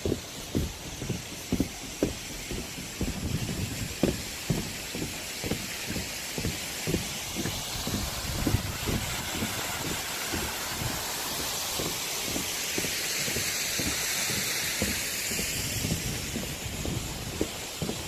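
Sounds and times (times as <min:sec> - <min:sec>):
rushing hiss: 0:00.0 - 0:18.0
walking footsteps: 0:00.0 - 0:18.0.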